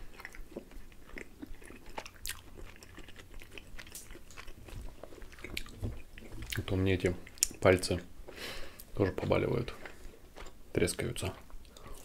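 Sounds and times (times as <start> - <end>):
chewing pizza: 0.0 - 8.0, 8.8 - 12.0.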